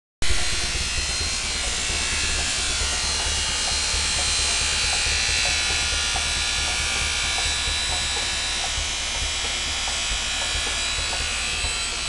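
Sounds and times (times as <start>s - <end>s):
angle grinder whining: 0.2s - 12.0s
low pulsing hum: 0.2s - 12.0s.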